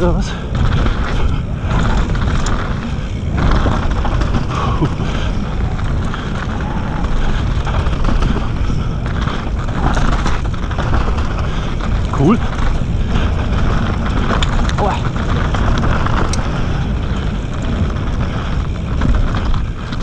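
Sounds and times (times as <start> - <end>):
bike tyres on loose dirt: 0.0 - 20.0
wind buffeting microphone: 0.0 - 20.0.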